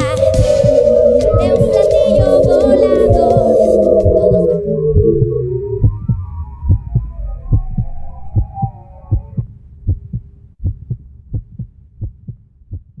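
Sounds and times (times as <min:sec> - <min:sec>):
low heartbeat-like thumping: 0:00.0 - 0:13.0.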